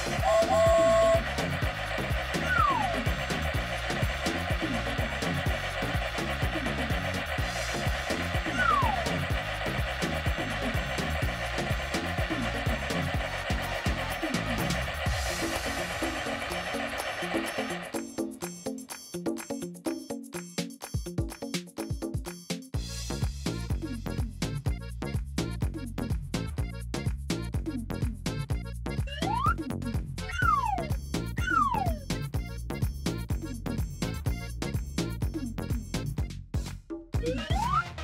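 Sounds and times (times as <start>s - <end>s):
electronic beat music: 0.0s - 36.1s, 37.2s - 38.0s.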